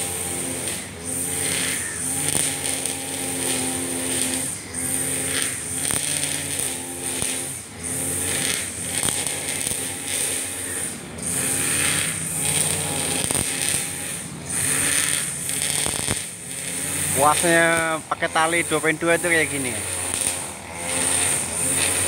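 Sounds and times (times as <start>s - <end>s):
brush cutter engine running: 0.0s - 22.0s
nylon line cutting grass: 0.0s - 22.0s.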